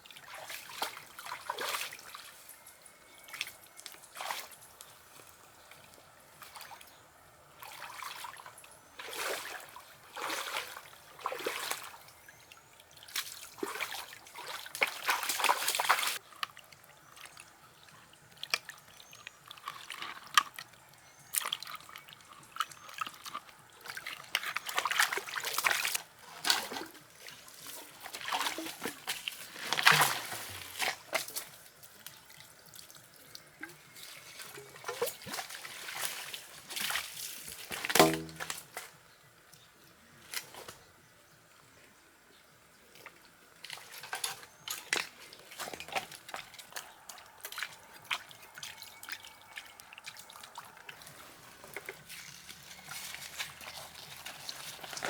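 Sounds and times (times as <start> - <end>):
water trickling and splashing: 0.0 - 40.8, 42.6 - 55.0.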